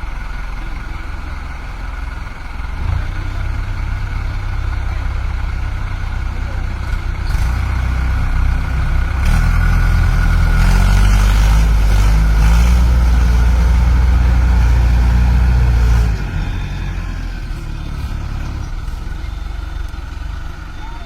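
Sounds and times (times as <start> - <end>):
tractor engine revving: 0.0 - 21.0.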